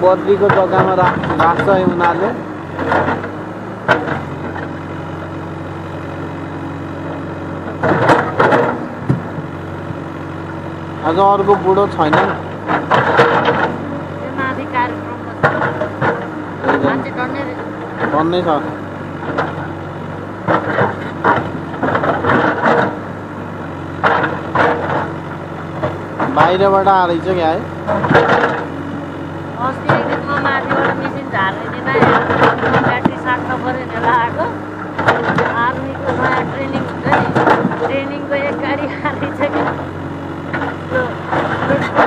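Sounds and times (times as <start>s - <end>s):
diesel engine running at low revs: 0.0s - 42.0s.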